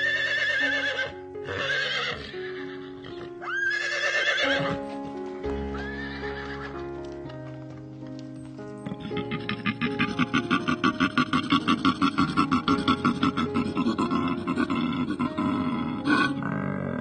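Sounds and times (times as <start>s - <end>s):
horse whinnying: 0.0s - 4.9s, 5.6s - 6.8s, 8.8s - 17.0s
background music: 0.0s - 17.0s.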